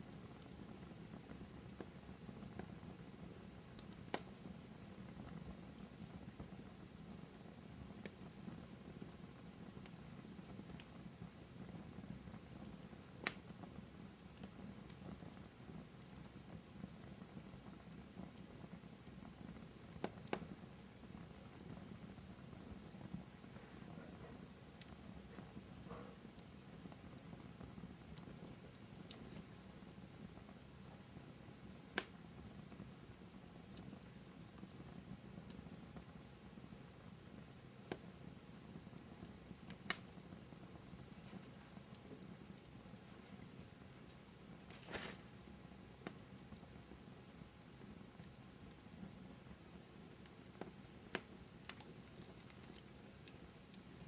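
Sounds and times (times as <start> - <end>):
fire crackling and popping: 0.0 - 54.0
wood fire burning: 0.0 - 54.0.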